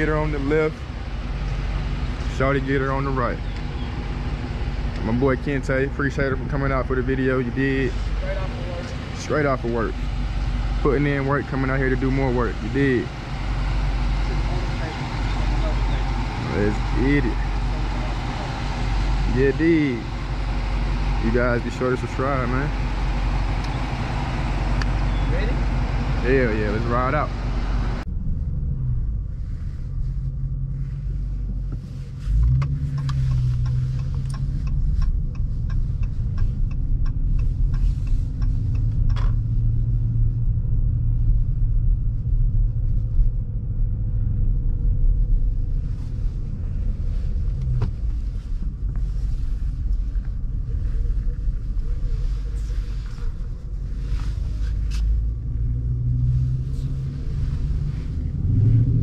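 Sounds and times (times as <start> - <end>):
car engine exhaust rumble: 0.0 - 59.0.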